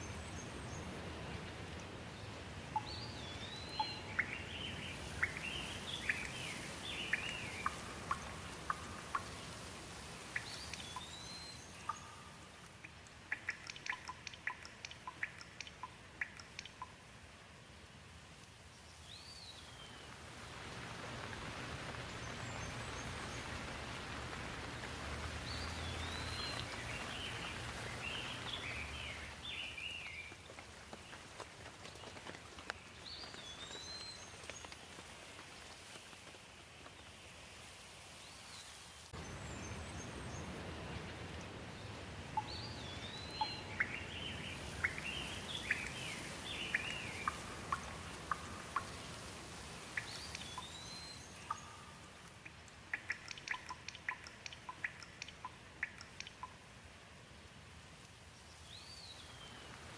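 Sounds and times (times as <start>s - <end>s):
songbirds chirping: 0.0s - 36.2s, 36.8s - 59.9s
sharp water drips: 0.0s - 36.4s, 39.0s - 59.9s
steady rain falling: 0.0s - 59.9s.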